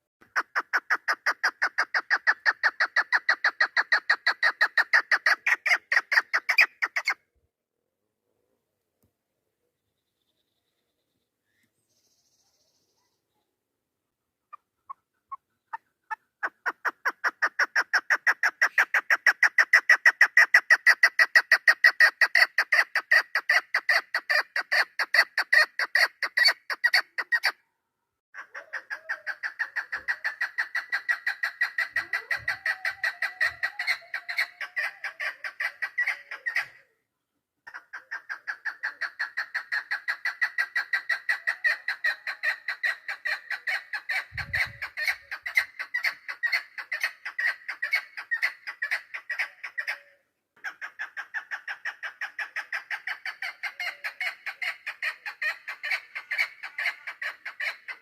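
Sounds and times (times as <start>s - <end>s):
partridge rapid clucking call: 0.0s - 7.2s, 14.5s - 27.6s, 28.4s - 36.9s, 37.7s - 58.0s.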